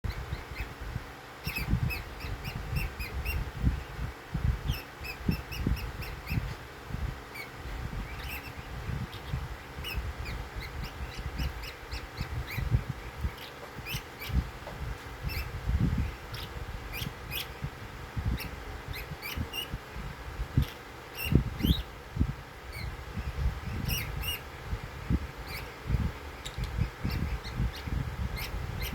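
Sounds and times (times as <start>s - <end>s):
bird chirping: 0.0s - 28.9s
low rumbling thumps: 0.0s - 28.9s
soft low thuds: 0.1s - 28.9s.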